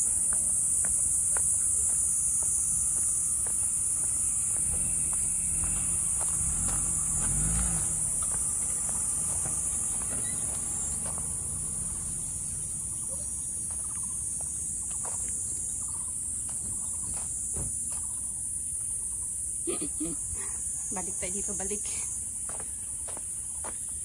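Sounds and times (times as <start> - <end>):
footsteps on trail: 0.0 - 18.3, 22.3 - 24.0
insects chorus: 0.0 - 24.0.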